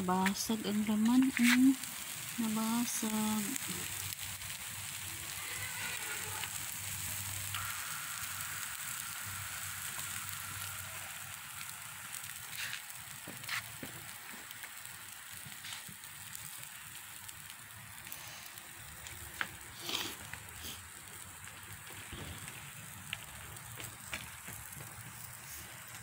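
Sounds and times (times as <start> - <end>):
fish sizzling on a grill: 0.0 - 26.0
crackles and pops: 0.1 - 26.0.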